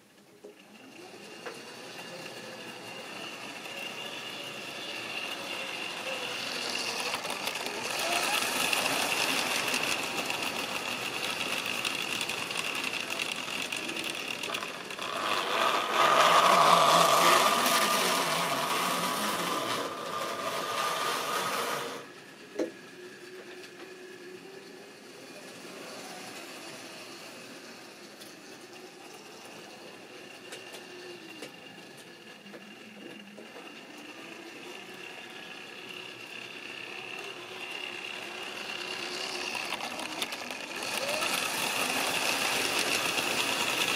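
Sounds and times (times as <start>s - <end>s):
model train motor whirring: 0.0s - 43.9s
wheels rattling on track: 0.0s - 43.9s.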